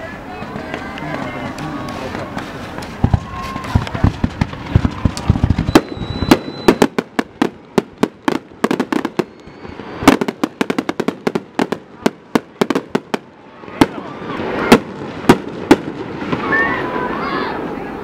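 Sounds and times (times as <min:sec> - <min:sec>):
fireworks bursting with sharp bangs: 0:00.4 - 0:17.8.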